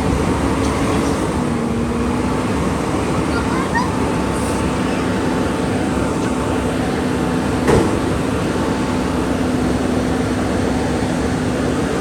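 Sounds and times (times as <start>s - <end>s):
loud rumbling with low hum: 0.0s - 12.0s.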